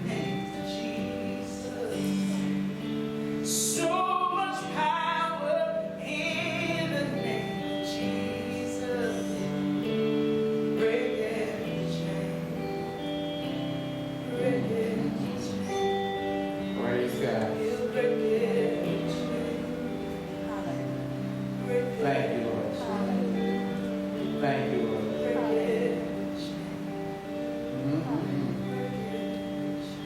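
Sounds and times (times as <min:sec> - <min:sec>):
person singing: 0:00.0 - 0:30.0
worship music sustained chords: 0:00.0 - 0:30.0.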